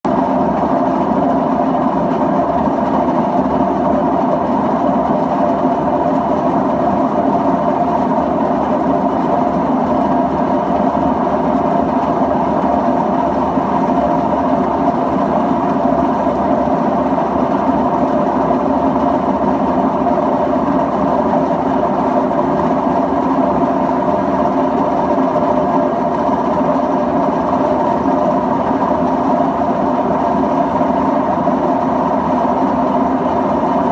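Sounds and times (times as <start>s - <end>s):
washing machine drum running: 0.1s - 33.9s.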